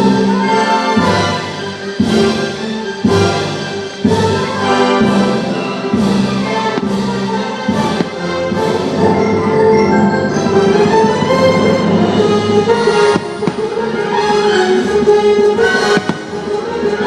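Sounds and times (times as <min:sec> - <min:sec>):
orchestral music with brass: 0:00.0 - 0:17.0.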